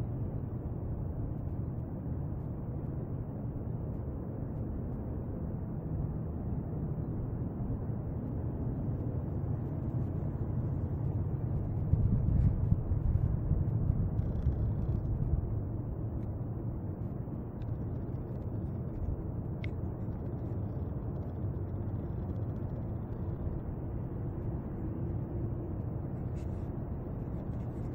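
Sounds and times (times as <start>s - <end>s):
low outdoor rumble: 0.0s - 27.9s.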